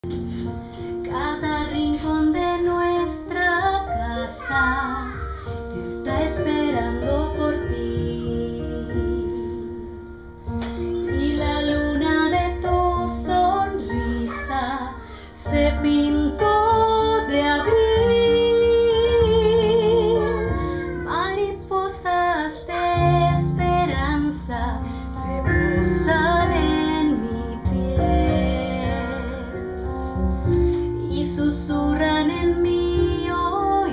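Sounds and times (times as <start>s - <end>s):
instrumental accompaniment: 0.0s - 33.9s
woman singing with vibrato: 1.1s - 9.6s, 11.0s - 29.7s, 31.1s - 33.9s.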